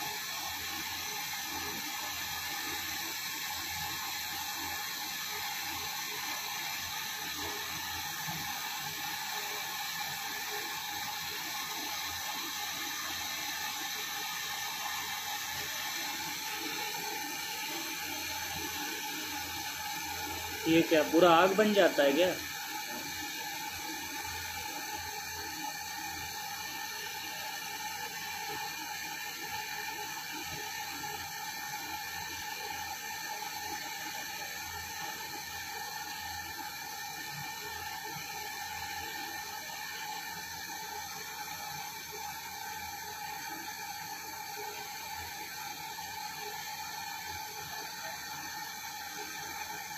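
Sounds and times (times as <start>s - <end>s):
gas torch hissing: 0.0s - 49.9s.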